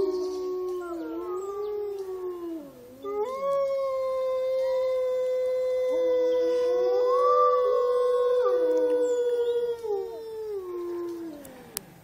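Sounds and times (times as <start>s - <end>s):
wolves howling: 0.0s - 11.8s.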